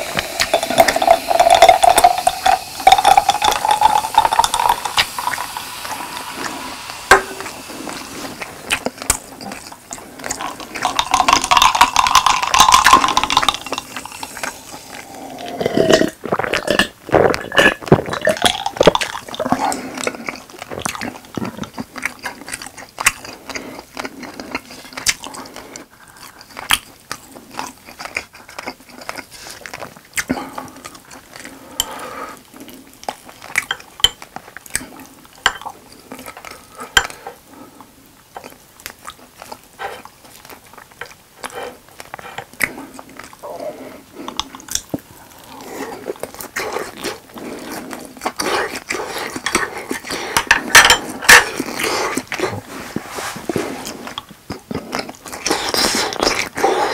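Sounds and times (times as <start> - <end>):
person gulping a drink: 0.0 - 25.4, 32.8 - 56.9
person chewing cheese: 0.0 - 56.9
mouth clicks and wet smacks: 3.1 - 15.0, 16.2 - 43.5, 44.1 - 52.7, 53.8 - 56.9.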